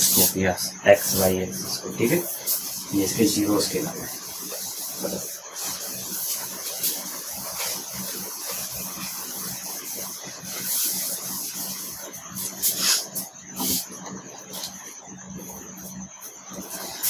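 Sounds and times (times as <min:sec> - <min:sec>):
duster rubbing on whiteboard: 0:00.0 - 0:17.0.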